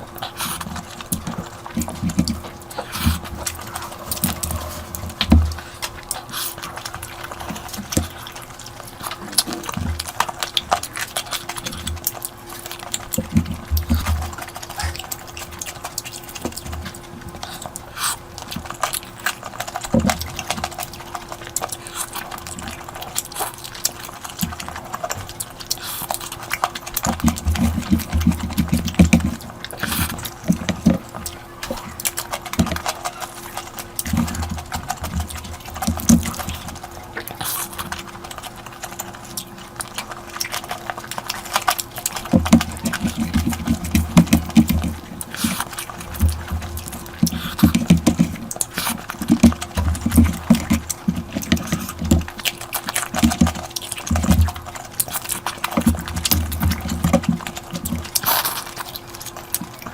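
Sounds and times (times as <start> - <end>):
chewing and wet mouth noises: 0.0 - 59.9.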